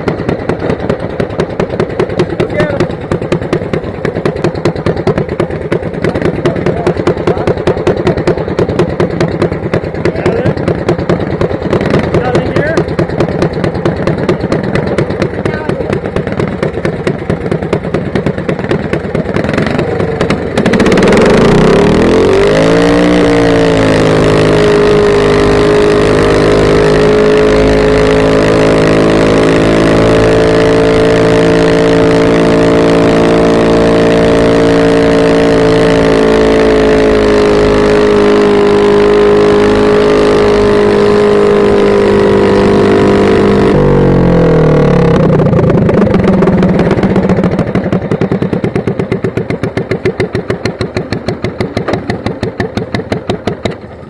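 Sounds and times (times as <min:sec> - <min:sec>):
small tractor engine revving: 0:00.0 - 0:54.0.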